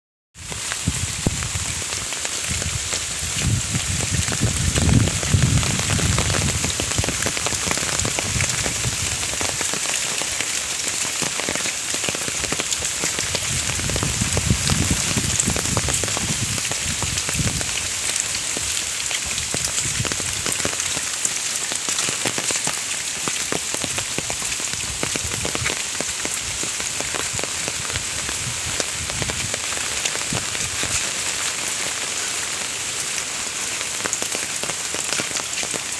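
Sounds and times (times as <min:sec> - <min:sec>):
rain falling: 0:00.4 - 0:35.9
raindrops ticking on surfaces: 0:00.4 - 0:35.9.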